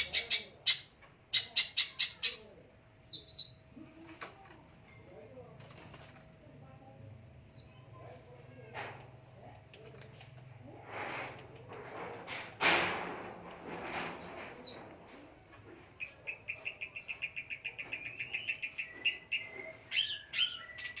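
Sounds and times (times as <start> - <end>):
bird rasping and chattering: 0.0 - 5.1, 8.4 - 21.0.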